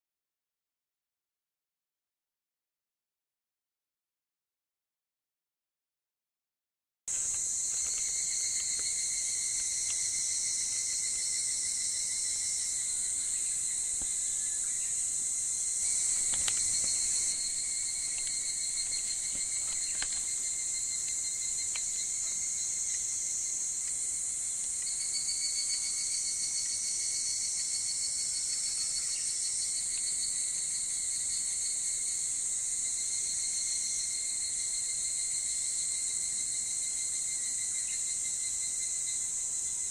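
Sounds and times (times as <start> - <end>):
cicadas trilling: 7.1 - 39.9.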